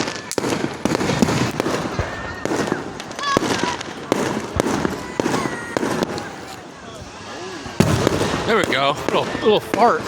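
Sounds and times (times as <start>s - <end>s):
fireworks bangs: 0.0s - 10.0s
fireworks crackle: 0.0s - 10.0s.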